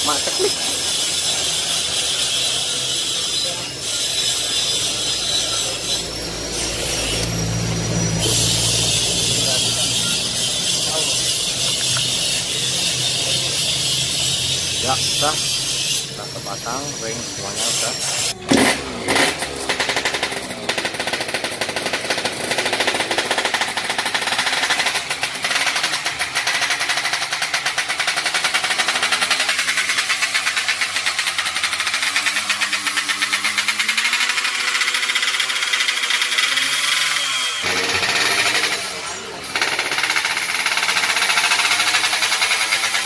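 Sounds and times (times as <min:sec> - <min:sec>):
two-stroke engine revving: 0:00.0 - 0:43.0.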